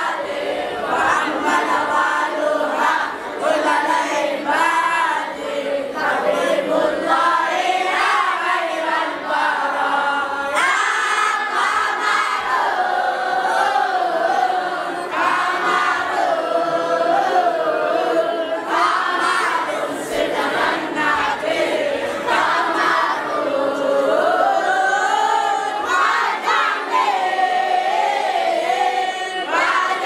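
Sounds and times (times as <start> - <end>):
boys' choir singing: 0.0 - 30.0.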